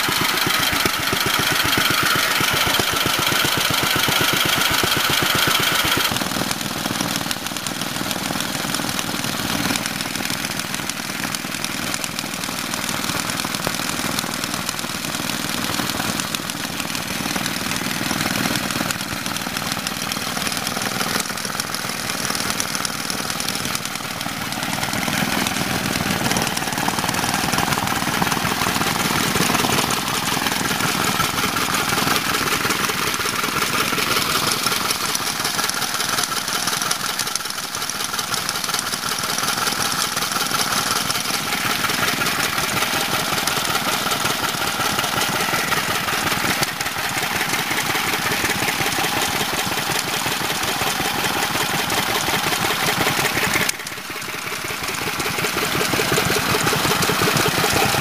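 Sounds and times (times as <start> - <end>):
stationary engine running: 0.0 - 58.0.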